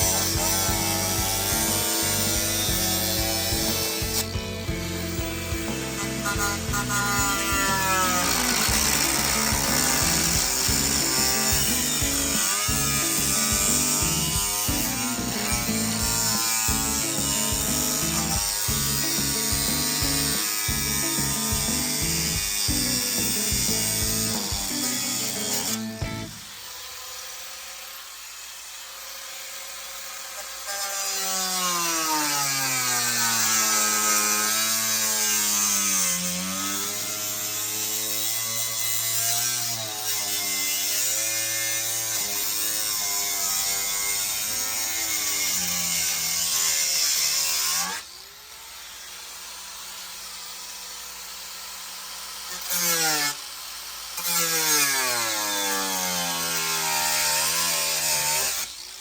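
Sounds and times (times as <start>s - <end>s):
power tool motor cutting: 0.0s - 59.0s.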